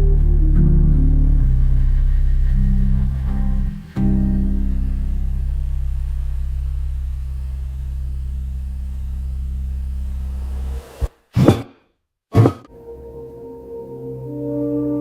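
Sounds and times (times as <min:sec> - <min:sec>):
low ambient drone: 0:00.0 - 0:11.1, 0:12.7 - 0:15.0.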